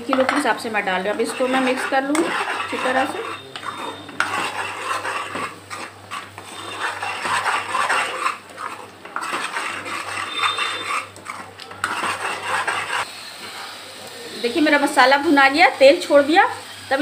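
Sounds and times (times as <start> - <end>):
metal spoon scraping a pan: 0.0 - 13.8
paste frying in oil: 0.0 - 17.0.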